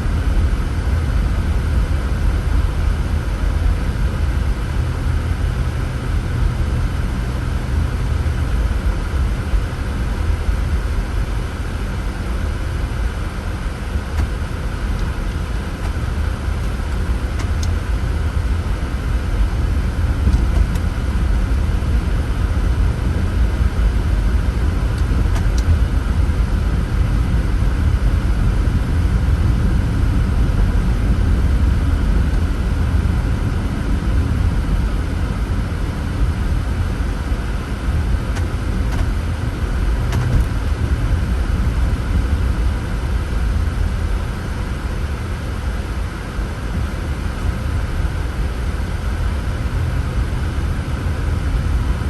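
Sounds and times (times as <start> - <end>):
car engine and tyre noise: 0.0 - 52.0.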